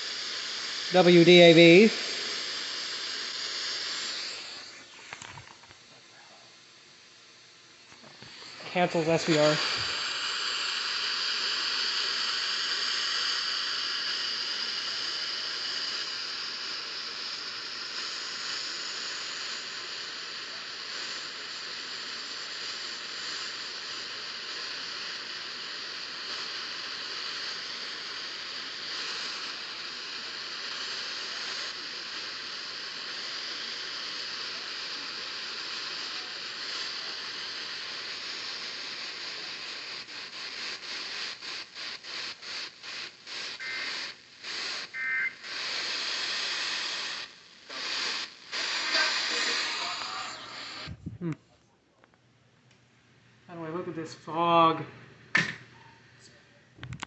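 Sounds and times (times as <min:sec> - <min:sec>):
radio static hiss: 0:00.0 - 0:52.2, 0:53.4 - 0:55.6.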